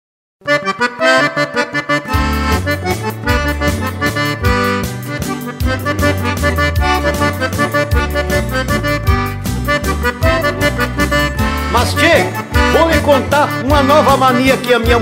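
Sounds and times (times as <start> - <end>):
accordion bass notes: 0.4 - 15.0
accordion melody: 0.4 - 15.0.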